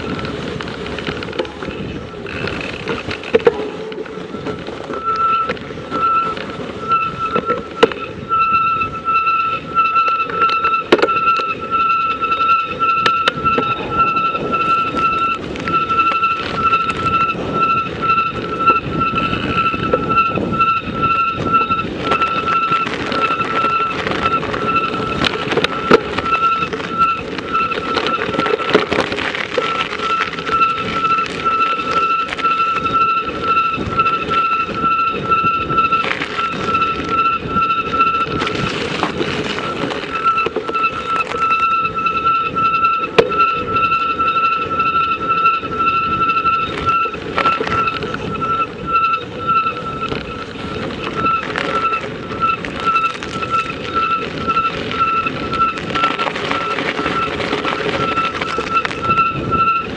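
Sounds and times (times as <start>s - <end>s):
high whine: 0.0s - 59.9s
vehicle ride rumbling: 0.0s - 59.9s.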